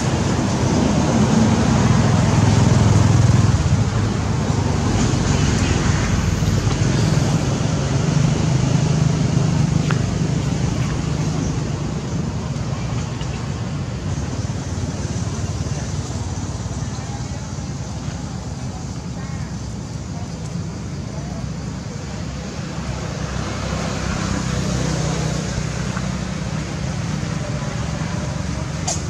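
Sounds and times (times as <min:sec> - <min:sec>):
engine rumbling: 0:00.0 - 0:29.0.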